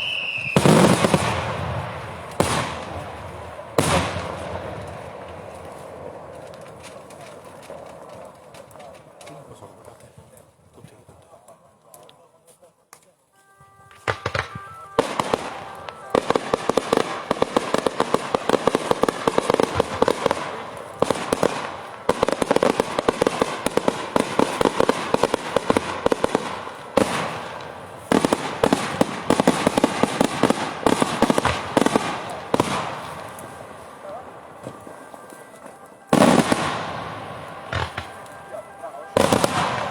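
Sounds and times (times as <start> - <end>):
firecracker bangs: 0.0 - 9.0, 13.9 - 39.9.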